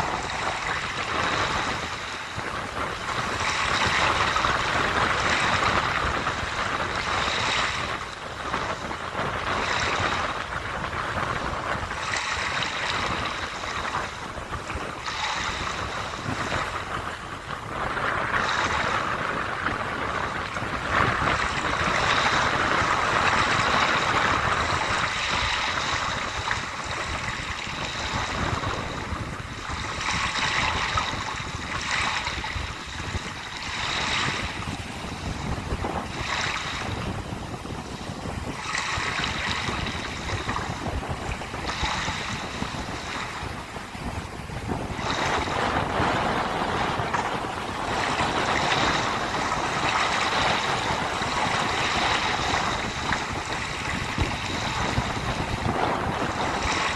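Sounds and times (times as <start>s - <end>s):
sea waves washing onto shore: 0.0s - 56.9s
wind rumbling on microphone: 0.0s - 56.9s.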